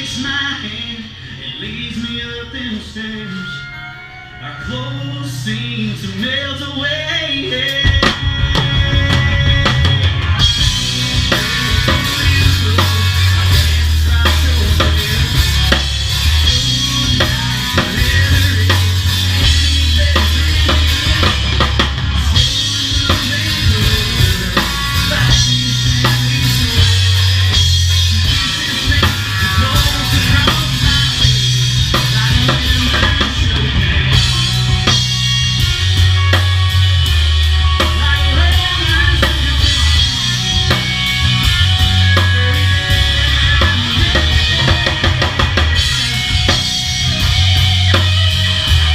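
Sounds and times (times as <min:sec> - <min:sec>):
rock band playing instrumental: 0:00.0 - 0:48.9.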